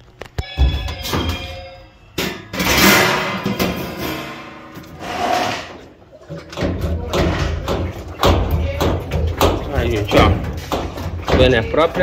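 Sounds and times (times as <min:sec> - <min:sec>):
sheet metal scraping and rattling: 0:00.6 - 0:12.0.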